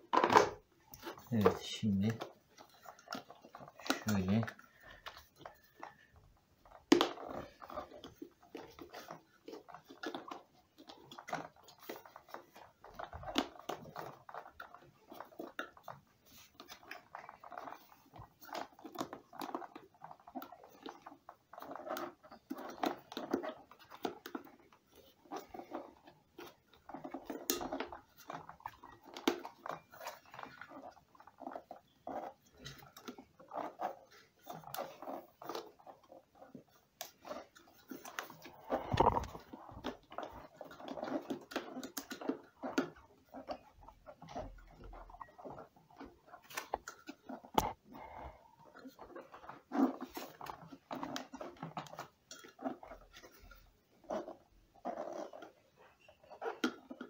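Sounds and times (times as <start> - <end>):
plastic clicks and scraping: 0.0 - 57.0.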